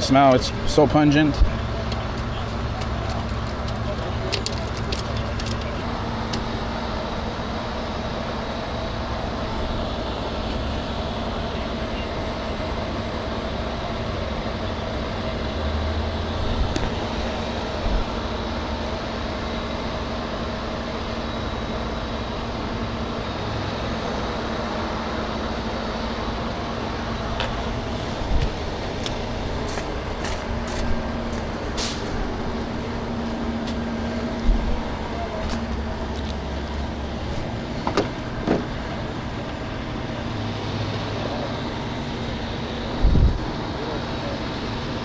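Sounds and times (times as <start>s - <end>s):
large vehicle engine idling: 0.0s - 45.0s.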